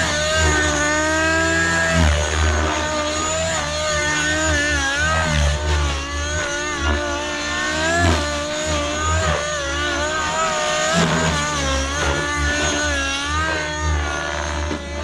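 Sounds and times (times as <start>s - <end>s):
helicopter rotor: 0.0s - 15.0s
model helicopter engine running hard: 0.0s - 15.0s.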